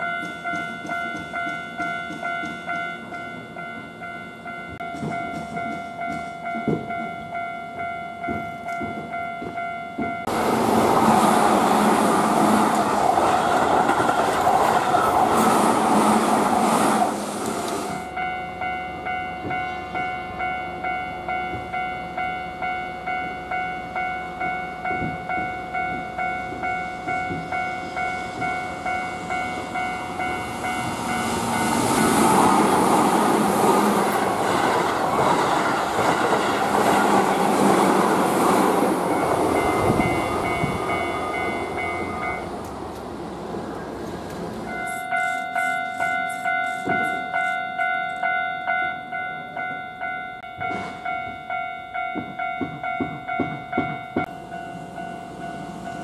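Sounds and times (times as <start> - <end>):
level crossing warning bell: 0.0 - 14.3, 17.9 - 42.7, 44.6 - 56.0
train running: 0.0 - 56.0.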